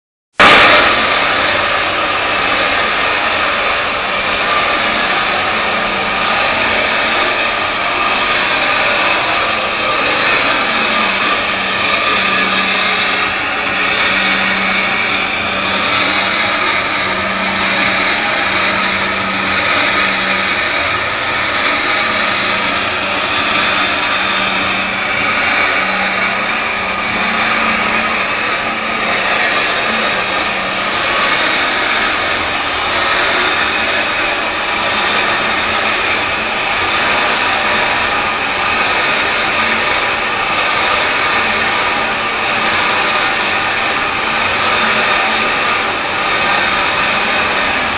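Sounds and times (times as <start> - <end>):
lathe machining steel: 0.3 - 47.9.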